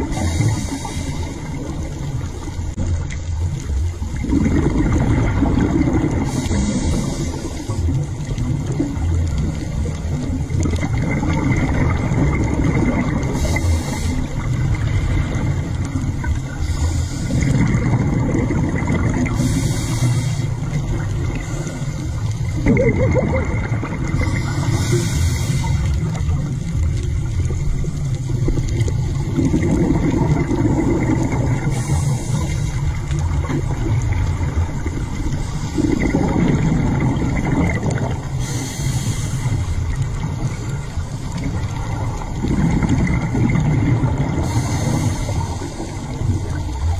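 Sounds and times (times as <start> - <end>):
scuba exhaled bubbles hissing: 0.0 - 46.9
underwater rumble of moving water: 0.0 - 46.9.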